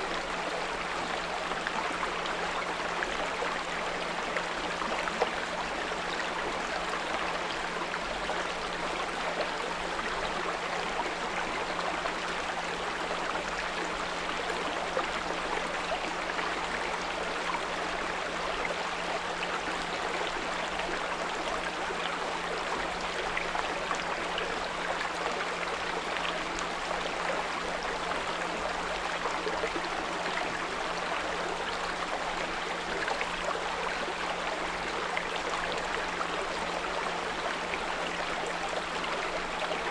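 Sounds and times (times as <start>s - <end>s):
brook flowing: 0.0s - 39.9s.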